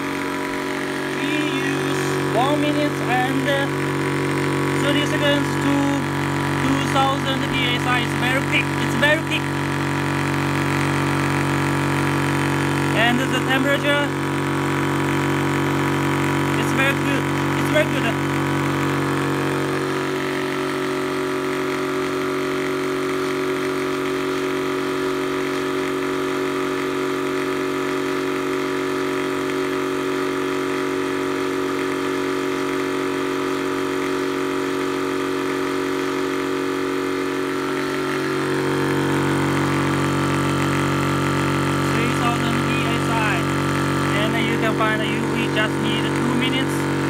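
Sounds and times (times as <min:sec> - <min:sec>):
compressor humming: 0:00.0 - 0:47.0.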